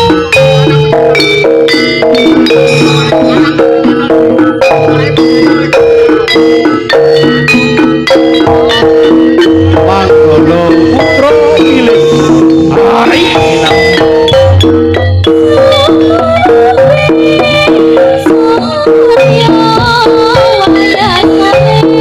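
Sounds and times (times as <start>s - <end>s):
gamelan music: 0.0s - 22.0s.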